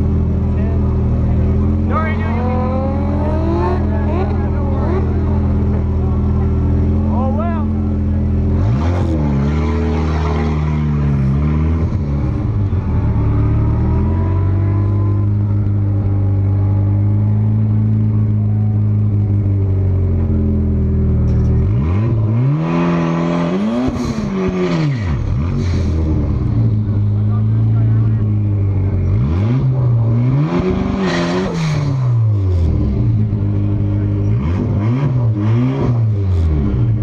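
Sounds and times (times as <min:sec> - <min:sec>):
car engine idling: 0:00.0 - 0:30.8, 0:31.7 - 0:34.5
engine revving: 0:00.0 - 0:37.0.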